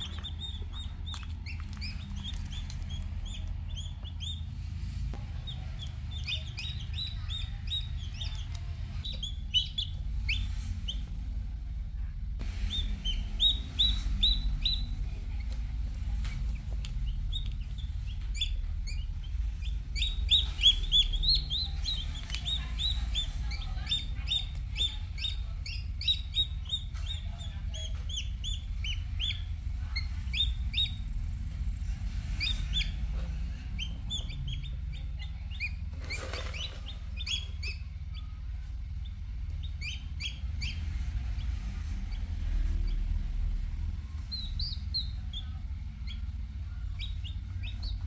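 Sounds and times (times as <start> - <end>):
chicks peeping: 0.0 - 48.0
low steady hum: 0.0 - 48.0.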